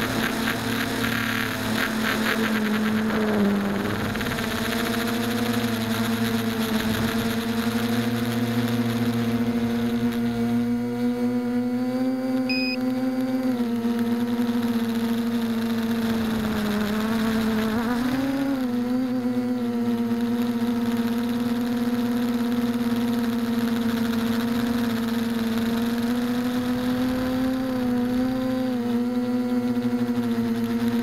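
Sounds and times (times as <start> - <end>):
drone motors and propellers whining: 0.0 - 31.0.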